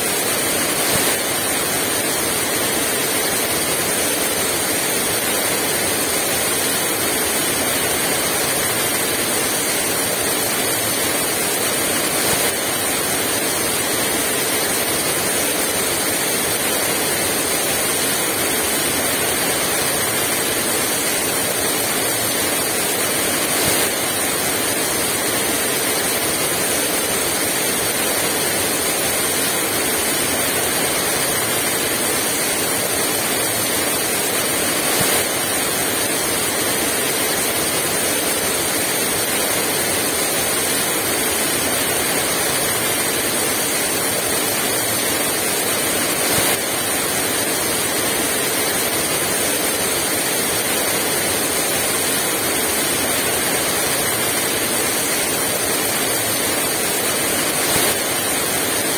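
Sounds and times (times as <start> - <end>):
heavy rain pouring: 0.1 - 58.9.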